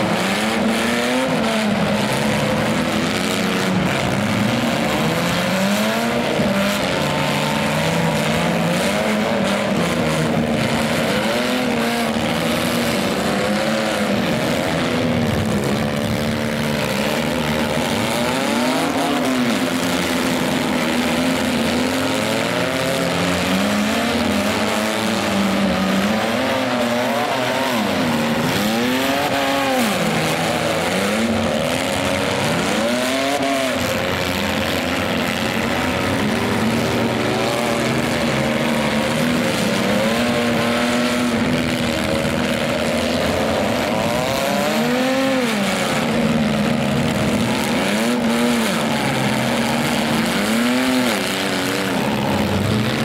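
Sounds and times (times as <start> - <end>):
van engines revving: 0.0 - 53.0
vans ramming each other: 0.0 - 53.0.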